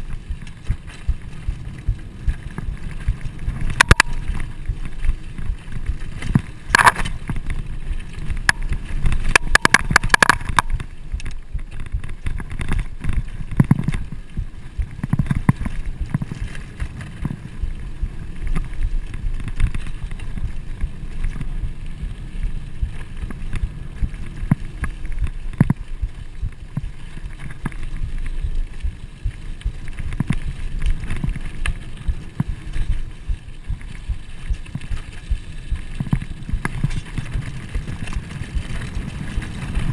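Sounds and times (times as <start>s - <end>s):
bike rattling over bumps: 0.0s - 39.9s
bike tyres rumbling on dirt: 0.0s - 39.9s
wind buffeting microphone: 0.0s - 39.9s.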